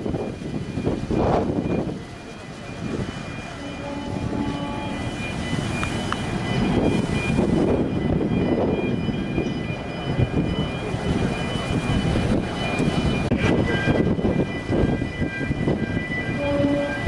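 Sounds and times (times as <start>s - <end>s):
ship engines roaring: 0.0s - 17.0s
wind buffeting microphone: 0.0s - 17.0s.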